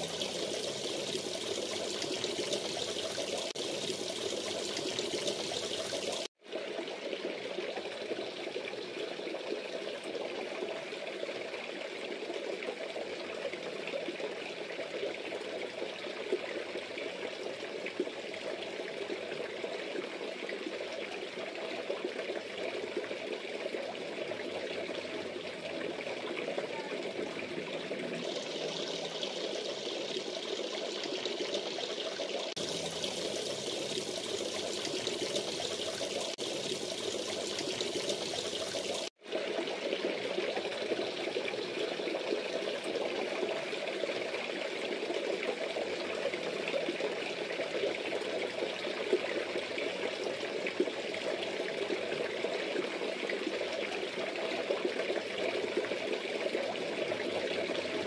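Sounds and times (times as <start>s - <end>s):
water splashing into a pond: 0.0s - 58.0s.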